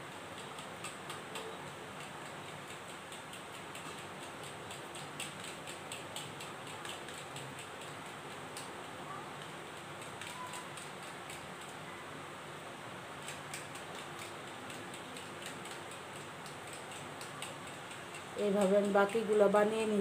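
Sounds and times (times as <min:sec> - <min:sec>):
sticky dough clicks: 0:00.1 - 0:11.8, 0:13.1 - 0:20.0.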